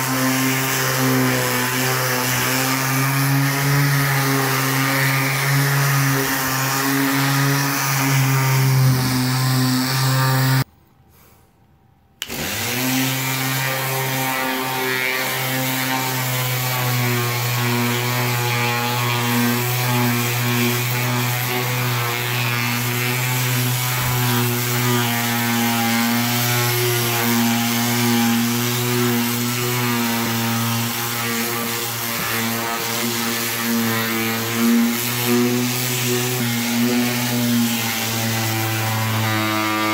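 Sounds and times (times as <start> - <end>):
orbital sander on fiberglass: 0.0 - 10.7, 12.2 - 39.9.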